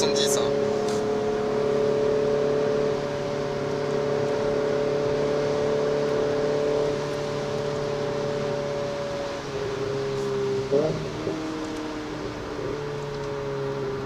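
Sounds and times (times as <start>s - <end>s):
car engine at high revs: 0.0s - 14.0s
road and tyre noise: 0.0s - 14.0s.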